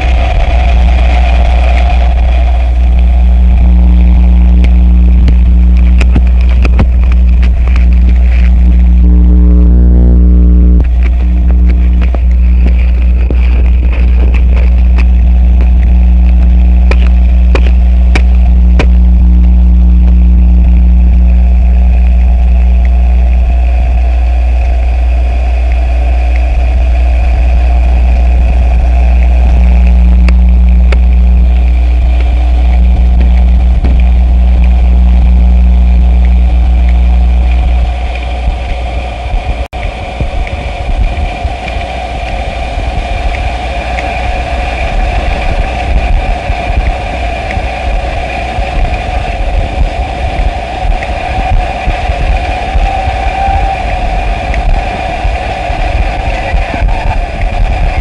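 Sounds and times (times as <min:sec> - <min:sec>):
hum: 0:00.0 - 0:58.0
low droning rumble: 0:00.0 - 0:58.0
rough crackling texture: 0:00.0 - 0:58.0.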